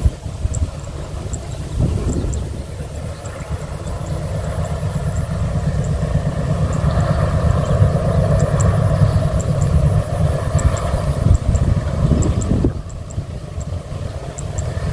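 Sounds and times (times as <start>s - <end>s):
train rumbling past: 0.0s - 14.9s.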